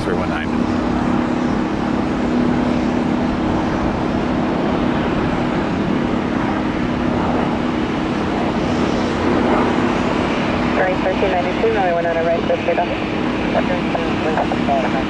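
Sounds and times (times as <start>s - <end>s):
aircraft engine noise: 0.0s - 15.0s.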